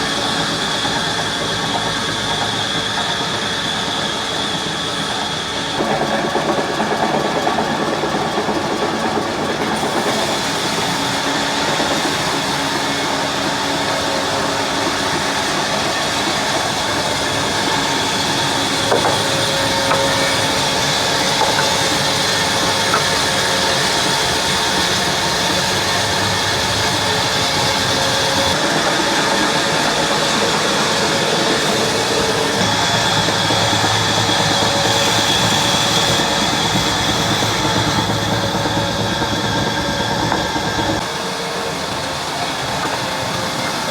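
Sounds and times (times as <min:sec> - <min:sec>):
band saw cutting a log: 0:00.0 - 0:43.9.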